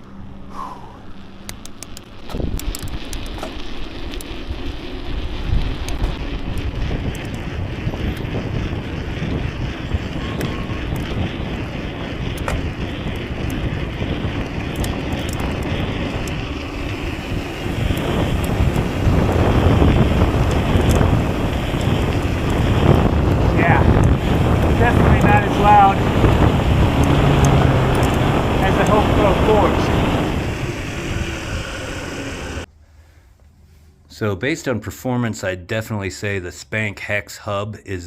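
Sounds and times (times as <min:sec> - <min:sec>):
bike hub freewheeling: 0:00.0 - 0:32.7
bike tyres rolling: 0:00.0 - 0:32.7
wind buffeting microphone: 0:02.1 - 0:32.7.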